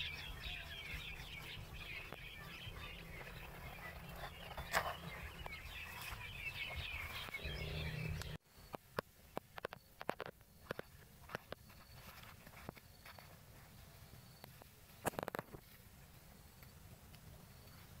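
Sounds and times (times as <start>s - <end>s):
small birds chirping: 0.0s - 15.5s.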